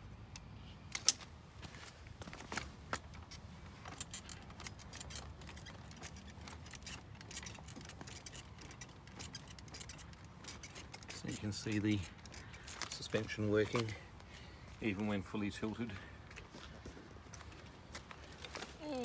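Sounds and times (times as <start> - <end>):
light clicks and metallic rattles: 2.2 - 19.0.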